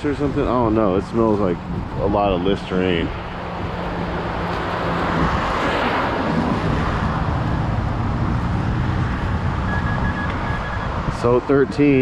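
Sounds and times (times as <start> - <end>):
strong wind gusting through trees: 0.0 - 12.0.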